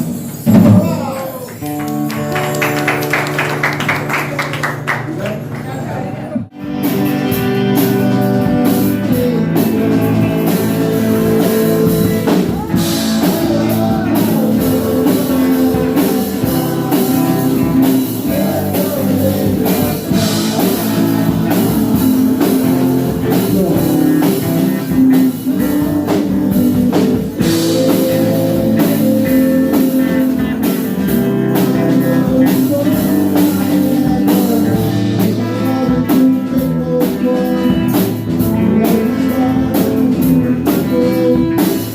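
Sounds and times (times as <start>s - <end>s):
rock music with guitar and drums: 0.0s - 3.8s, 6.5s - 41.9s.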